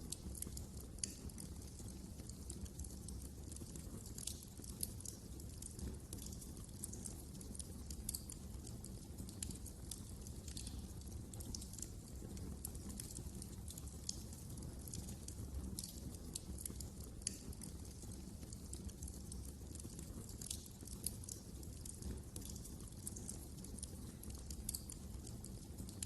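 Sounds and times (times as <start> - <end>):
low rumble of burning: 0.0 - 26.0
wood fire crackling and popping: 0.0 - 26.0.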